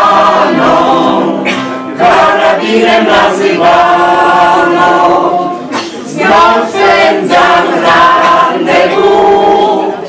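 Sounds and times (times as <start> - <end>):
mixed choir singing: 0.0 - 10.0.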